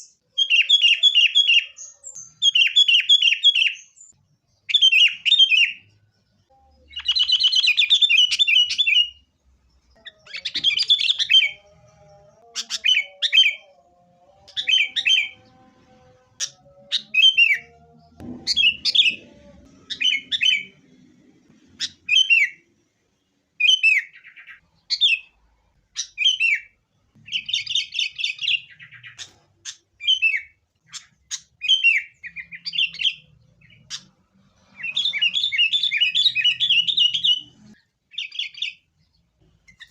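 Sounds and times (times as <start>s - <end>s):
bulbul singing: 0.0s - 22.8s, 26.0s - 39.9s.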